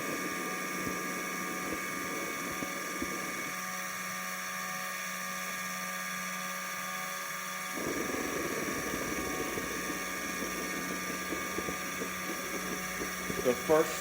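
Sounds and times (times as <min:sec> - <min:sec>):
model turbine whining: 0:00.0 - 0:05.0, 0:07.5 - 0:14.0.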